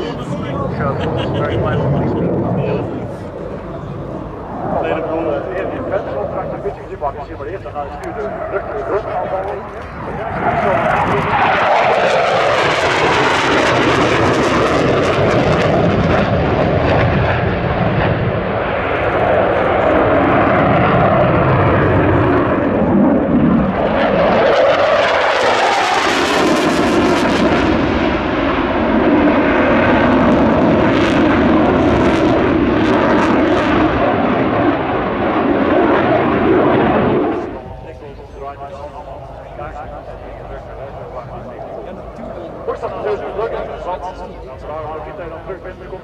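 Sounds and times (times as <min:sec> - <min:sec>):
fighter jet roaring: 0:00.0 - 0:46.0.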